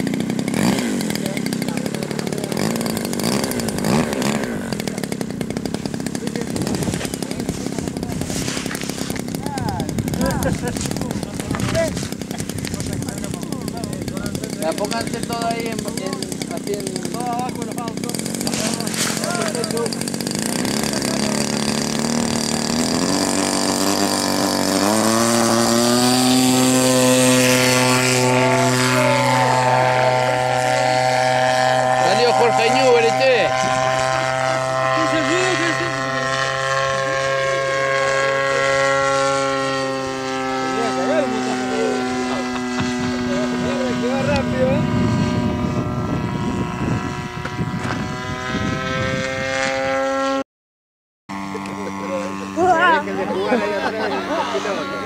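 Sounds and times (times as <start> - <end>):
model aircraft engine running: 0.0 - 50.4, 51.3 - 55.0.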